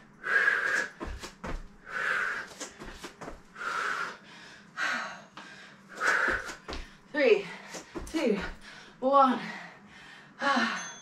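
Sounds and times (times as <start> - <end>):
woman breathing hard: 0.1 - 11.0.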